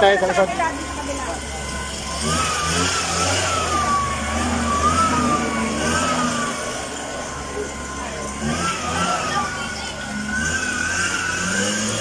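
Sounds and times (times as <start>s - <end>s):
wavering high whine: 0.4s - 12.0s
motor humming: 0.5s - 12.0s.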